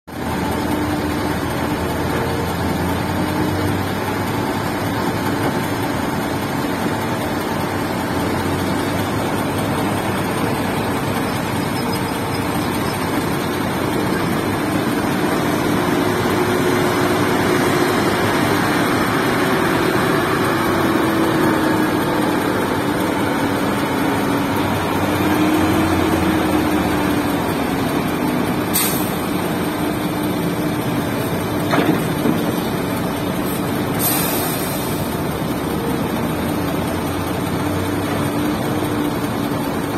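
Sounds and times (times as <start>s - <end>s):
excavator diesel engine running: 0.1s - 39.9s.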